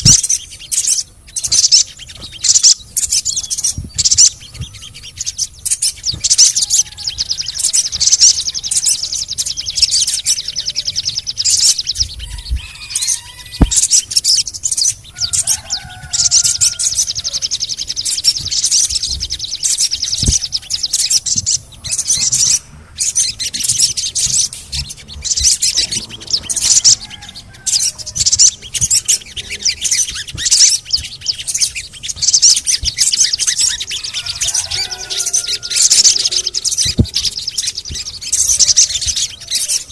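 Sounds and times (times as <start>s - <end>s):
bird rattling chirps: 0.0s - 39.9s.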